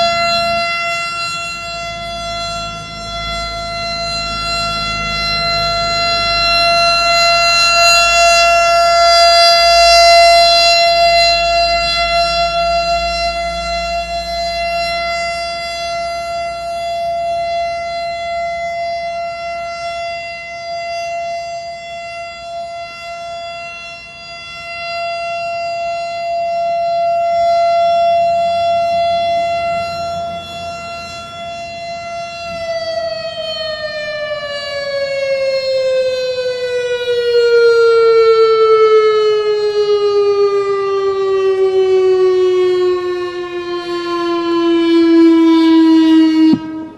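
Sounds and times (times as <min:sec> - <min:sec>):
civil defense siren: 0:00.0 - 0:46.9.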